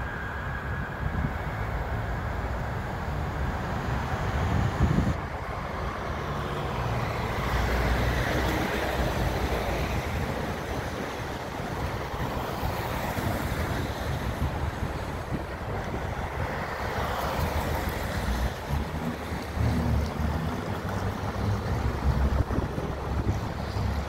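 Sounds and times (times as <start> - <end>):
cars passing on wet road: 0.0 - 24.0
low traffic rumble: 0.0 - 24.0.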